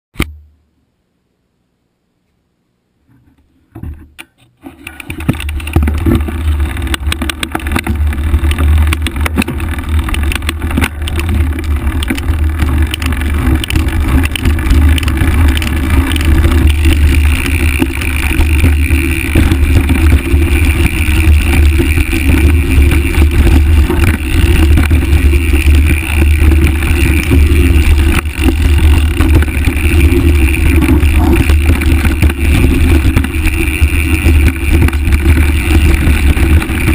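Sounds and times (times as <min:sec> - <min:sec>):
bike tyres rumbling over dirt: 0:04.7 - 0:36.9.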